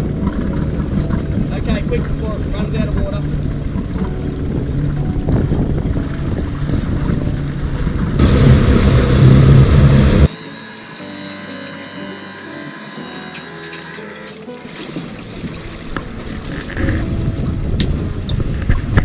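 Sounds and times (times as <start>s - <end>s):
background music with held notes: 0.0s - 8.2s, 10.1s - 19.0s
outboard motors running: 0.0s - 19.0s.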